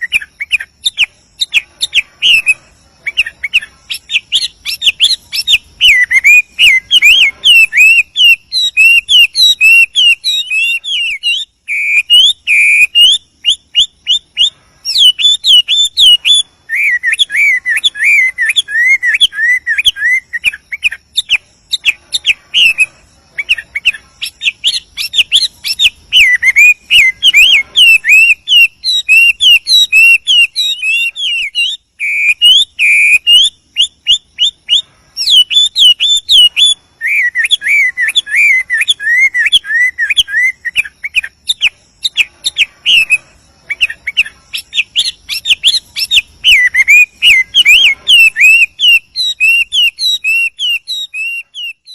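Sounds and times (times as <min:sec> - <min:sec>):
bird singing whistled phrases: 0:00.0 - 0:51.9.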